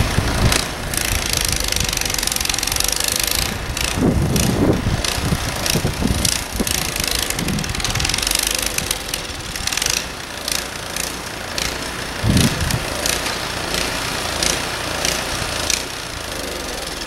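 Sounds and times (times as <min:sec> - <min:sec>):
snow blower engine running: 0:00.0 - 0:17.0.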